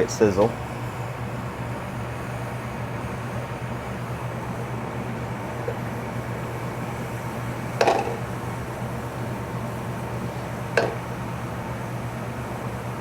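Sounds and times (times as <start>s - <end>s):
kitchen fan humming: 0.0s - 13.0s.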